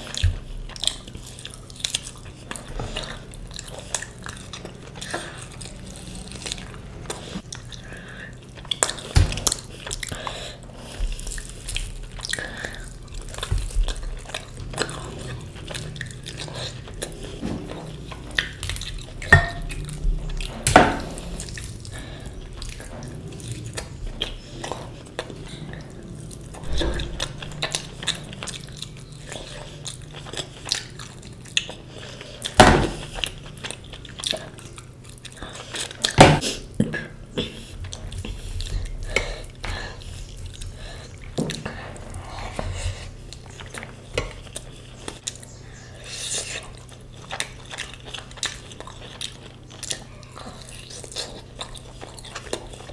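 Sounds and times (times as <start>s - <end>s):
wet chewing: 0.0s - 52.9s.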